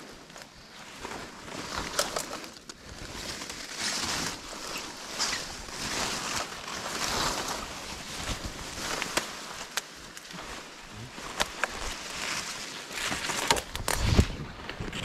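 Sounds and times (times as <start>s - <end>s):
leaves rustling in undergrowth: 0.0s - 15.0s.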